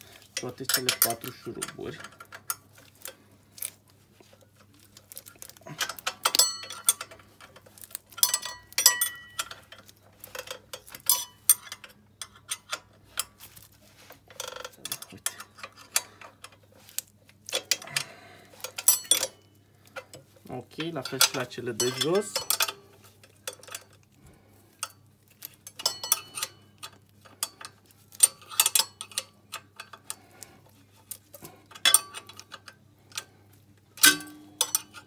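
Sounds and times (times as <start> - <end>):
spanners clinking on bolts: 0.3 - 3.1, 4.7 - 13.4, 14.2 - 16.7, 17.5 - 24.0, 24.8 - 30.3, 31.4 - 33.3, 34.0 - 35.0.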